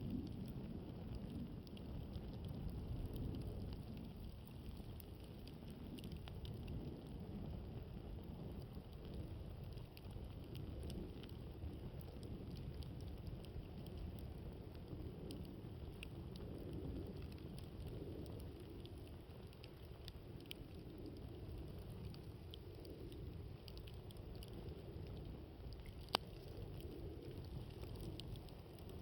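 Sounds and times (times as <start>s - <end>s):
campfire crackling and popping: 0.0s - 29.0s
low wind rumble: 0.0s - 29.0s.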